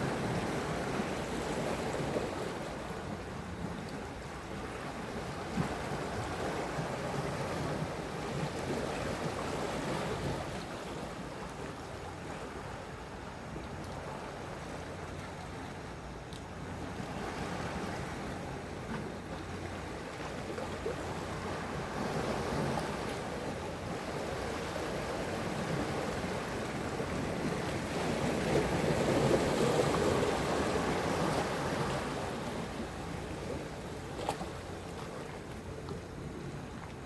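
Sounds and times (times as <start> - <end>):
sea waves washing ashore: 0.0 - 37.0.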